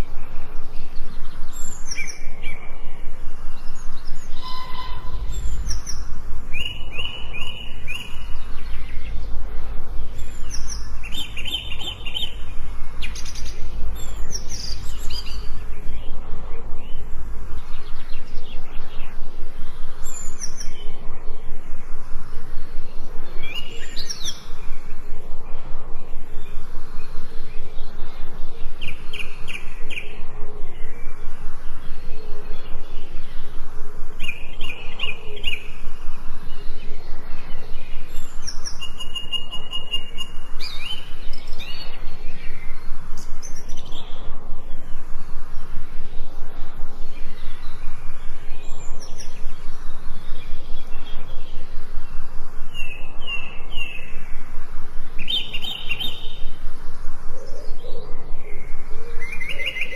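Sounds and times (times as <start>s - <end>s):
low background noise: 0.0s - 59.9s
songbirds singing: 0.0s - 59.9s.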